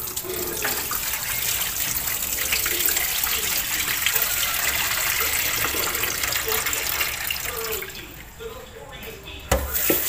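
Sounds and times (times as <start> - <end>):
water splashing into steel sink: 0.0 - 7.9, 9.5 - 10.0.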